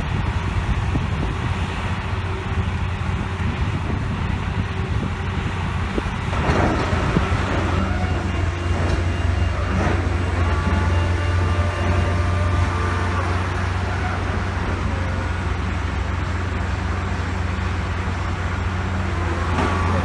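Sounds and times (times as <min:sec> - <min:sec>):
low engine drone: 0:00.0 - 0:20.0
machinery noise: 0:00.0 - 0:20.0.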